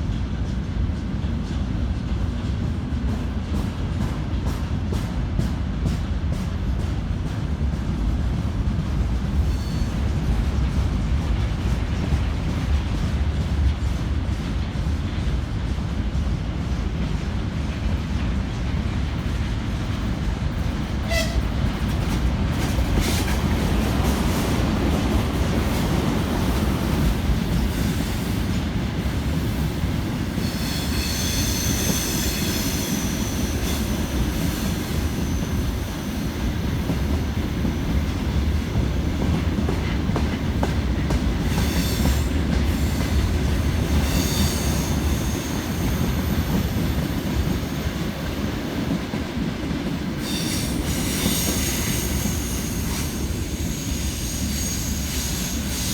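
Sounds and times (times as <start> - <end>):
train rumbling along track: 0.0 - 55.9.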